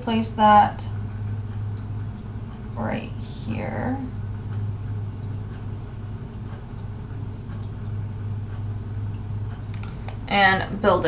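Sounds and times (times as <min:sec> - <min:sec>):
aquarium filter humming: 0:00.0 - 0:11.0
water trickling: 0:00.0 - 0:11.0.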